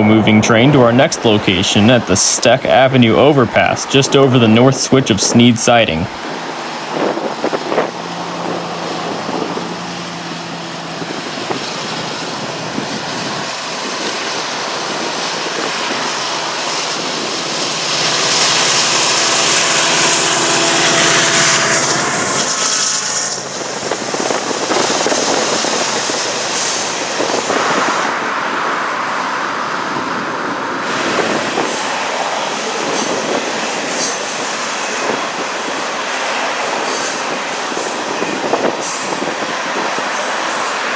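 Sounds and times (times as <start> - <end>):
locomotive engines humming: 0.0 - 40.9
train wheels on rail: 6.1 - 40.9.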